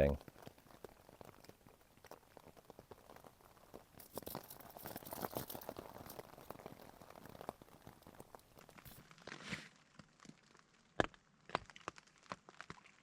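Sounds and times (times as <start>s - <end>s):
rain pattering on tent fabric: 0.0s - 13.0s.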